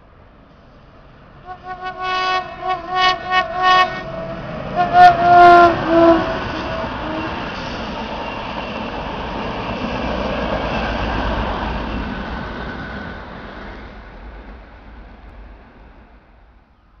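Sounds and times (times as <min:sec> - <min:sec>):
passenger train rolling past: 0:00.0 - 0:17.0.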